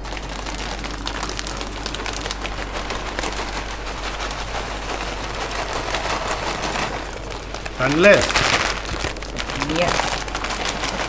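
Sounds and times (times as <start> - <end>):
dry pasta pouring into pot: 0.0 - 11.0
plastic bag crinkling: 0.0 - 11.0.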